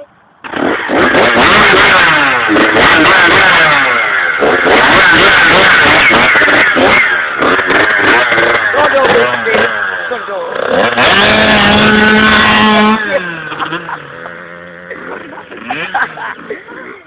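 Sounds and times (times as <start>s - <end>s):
motorbike engine revving: 0.4s - 17.0s.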